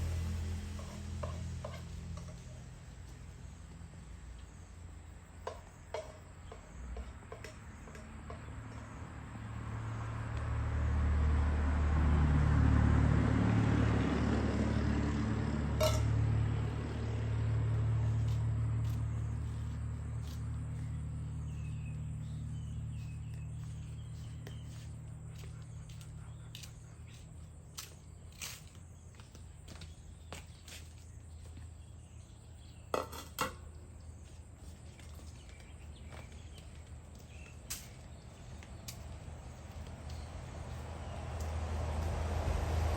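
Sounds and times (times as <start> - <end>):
low engine rumble: 0.0 - 42.9.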